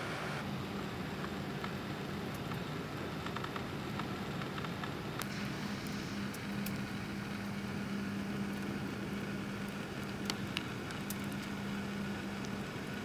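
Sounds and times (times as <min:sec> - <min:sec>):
constant hiss: 0:00.0 - 0:13.0
steady low mechanical hum: 0:00.0 - 0:13.0.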